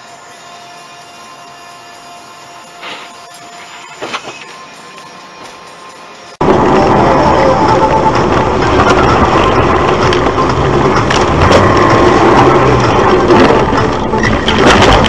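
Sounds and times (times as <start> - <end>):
car tyres crunching over frozen ground: 0.8 - 15.0.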